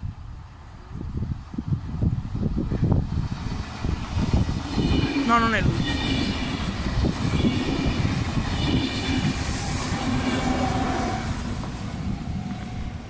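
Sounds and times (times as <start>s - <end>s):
electric locomotive passing: 0.2s - 13.0s.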